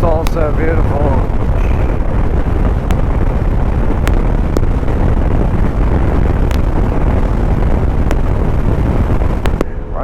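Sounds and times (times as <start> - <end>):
motorcycle engine rumble: 0.0 - 10.0
wind on microphone: 0.0 - 10.0.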